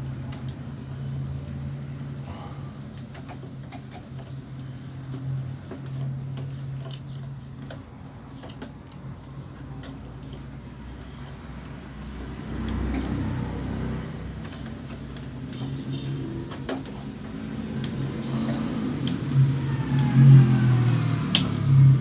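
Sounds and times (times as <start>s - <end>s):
light clicks and taps: 0.0s - 21.7s.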